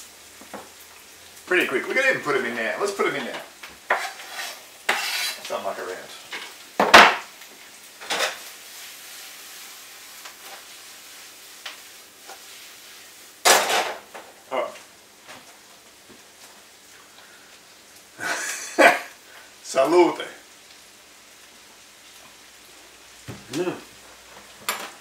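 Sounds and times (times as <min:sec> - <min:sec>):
potato frying in oil: 0:00.0 - 0:25.0.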